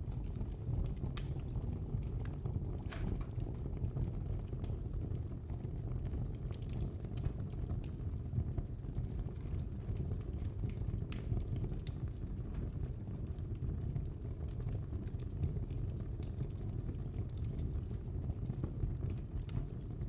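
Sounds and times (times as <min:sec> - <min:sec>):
fireplace fire crackling: 0:00.0 - 0:20.0.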